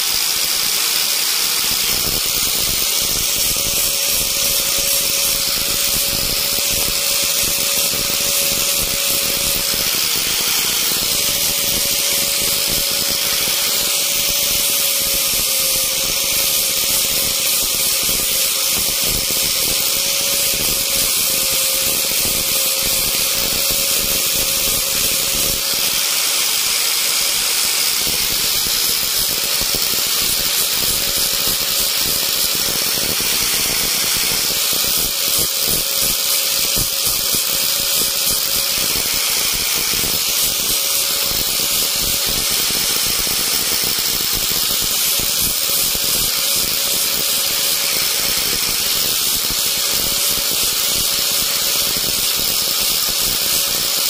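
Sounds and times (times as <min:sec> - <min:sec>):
high-speed electric motor whining: 0:00.0 - 0:54.0.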